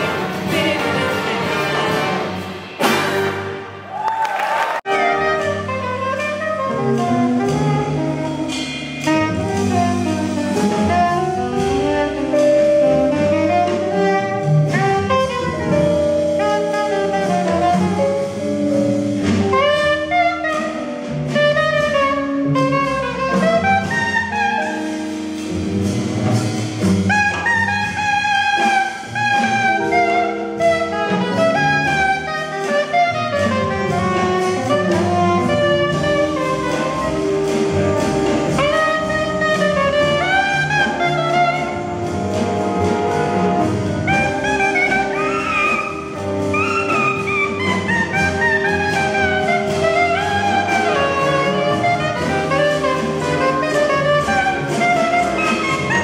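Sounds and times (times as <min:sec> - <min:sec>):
brass chords: 0:00.0 - 0:04.0, 0:04.8 - 0:56.0
soprano saxophone melody: 0:04.8 - 0:25.0, 0:27.1 - 0:56.0.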